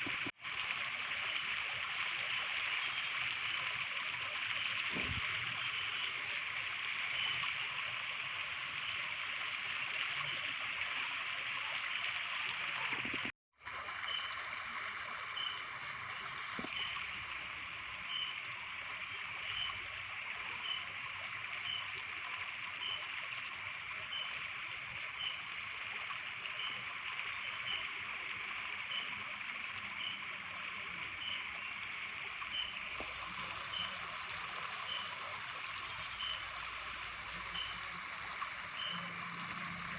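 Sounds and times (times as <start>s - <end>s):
insects chirping: 0.0s - 39.9s
running water hissing: 0.0s - 39.9s.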